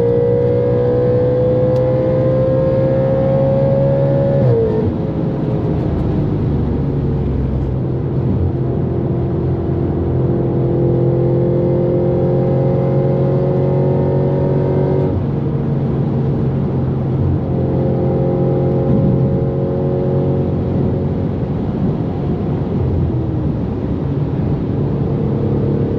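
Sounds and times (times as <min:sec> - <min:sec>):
car engine accelerating hard: 0:00.0 - 0:25.9.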